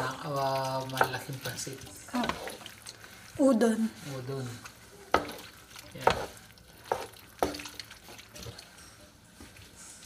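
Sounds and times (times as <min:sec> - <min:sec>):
spatula stirring noodles in pot: 0:00.0 - 0:09.8.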